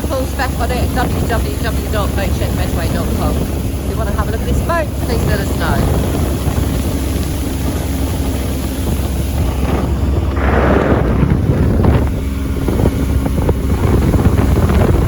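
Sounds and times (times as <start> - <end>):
motorboat engine humming: 0.0 - 15.0
wind buffeting microphone: 0.0 - 15.0.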